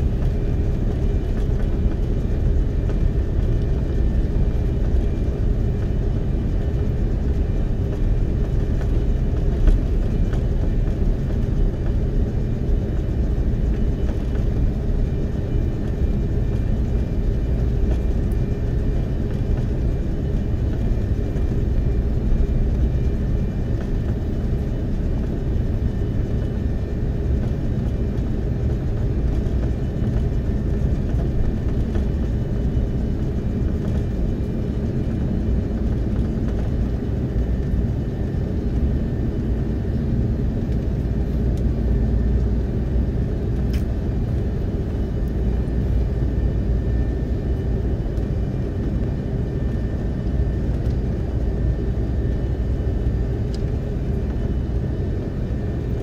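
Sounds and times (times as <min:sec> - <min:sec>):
low rumble of jet engines: 0:00.0 - 0:56.0.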